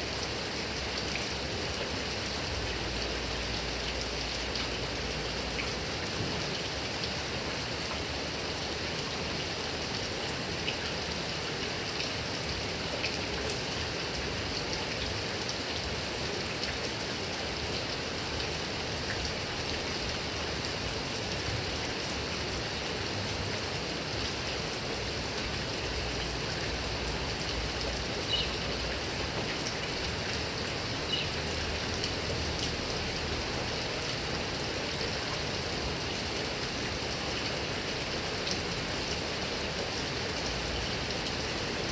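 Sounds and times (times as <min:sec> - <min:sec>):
heavy rain on foliage: 0:00.0 - 0:41.9.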